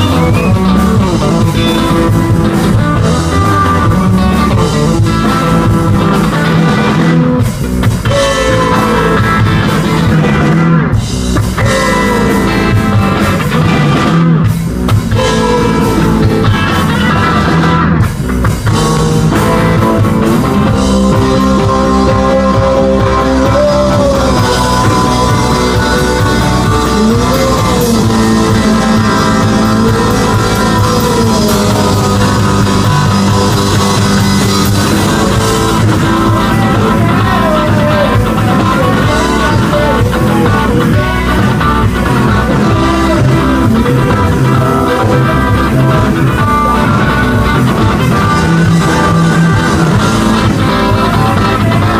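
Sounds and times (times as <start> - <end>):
drum kit: 0.0 - 51.9
electric guitar: 0.0 - 51.9
rock band playing: 0.0 - 51.9.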